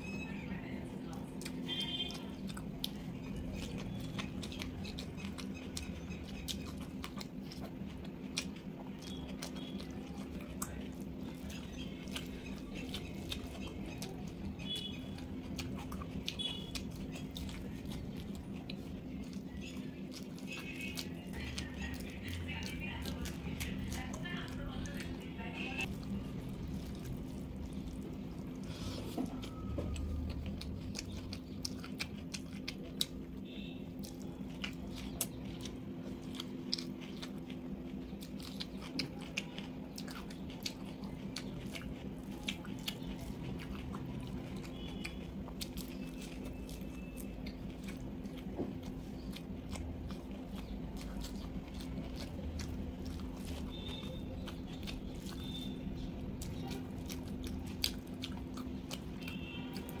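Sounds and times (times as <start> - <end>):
chewing with wet mouth clicks: 0.0 - 60.0
steady low hum: 0.0 - 60.0.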